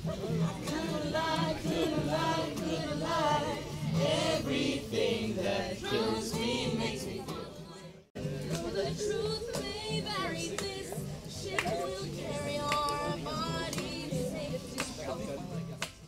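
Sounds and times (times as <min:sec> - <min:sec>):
group of voices singing: 0:00.0 - 0:15.5.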